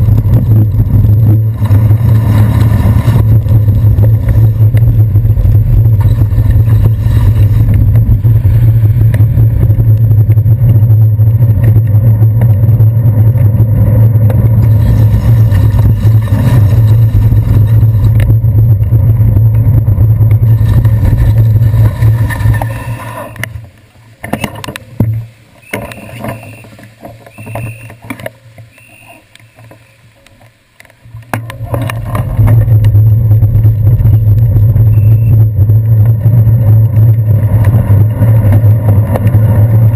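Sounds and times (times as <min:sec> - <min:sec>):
bicycle rumbling over wet streets: 0:00.0 - 0:39.9.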